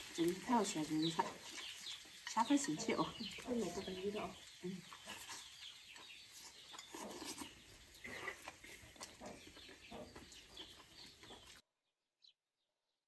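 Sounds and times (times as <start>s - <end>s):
chickens clucking: 0.0s - 11.6s.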